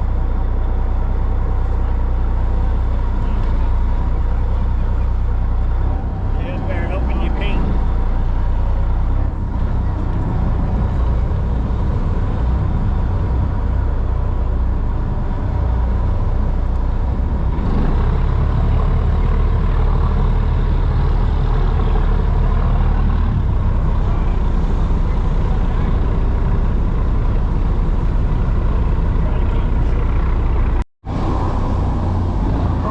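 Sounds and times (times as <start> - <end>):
generator running: 0.0 - 32.9.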